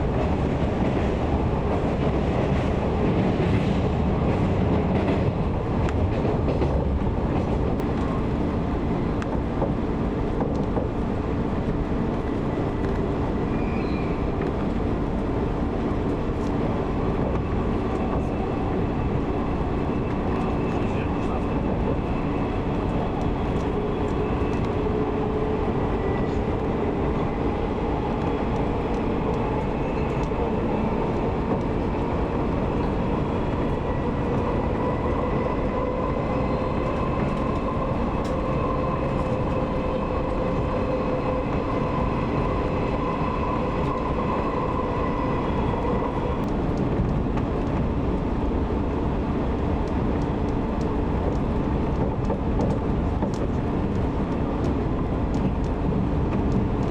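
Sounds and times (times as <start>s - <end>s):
faint train whine: 0.0s - 56.9s
train wheels rumbling on rails: 0.0s - 56.9s.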